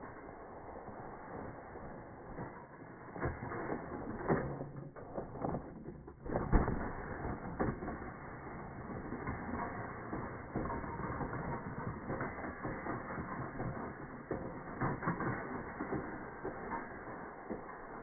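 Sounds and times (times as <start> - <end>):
scraping and crunching over crusty snow: 0.0 - 18.0.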